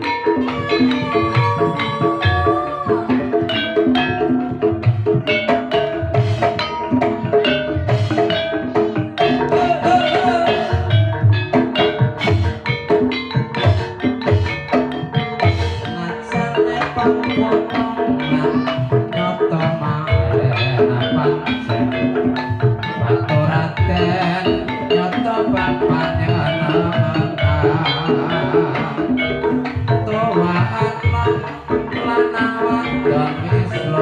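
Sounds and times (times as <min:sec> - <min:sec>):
hand drums: 0:00.0 - 0:34.0
struck keyed mallet instruments: 0:00.0 - 0:34.0.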